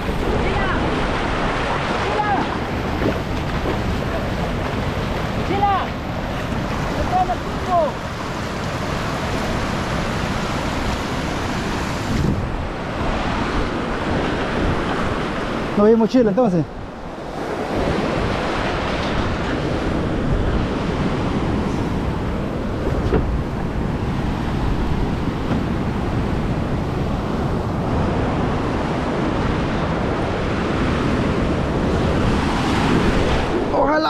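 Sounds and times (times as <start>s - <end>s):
ocean surf breaking on a beach: 0.0s - 34.0s
wind buffeting the microphone: 0.0s - 34.0s.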